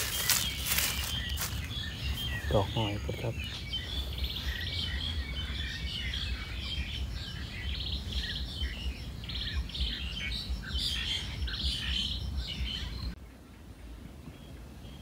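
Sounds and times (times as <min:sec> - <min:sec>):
birds chirping and chattering: 0:00.0 - 0:15.0
steady low rumble: 0:00.0 - 0:15.0.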